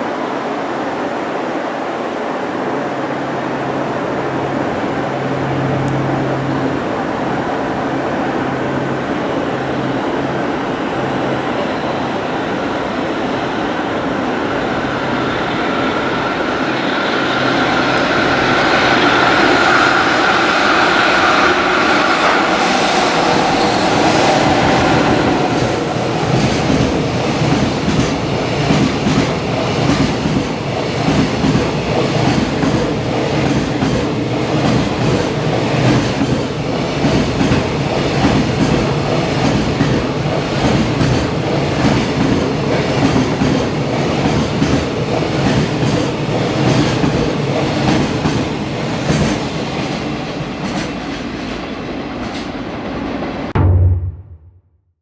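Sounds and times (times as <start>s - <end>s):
electric locomotive whine: 0.0s - 53.6s.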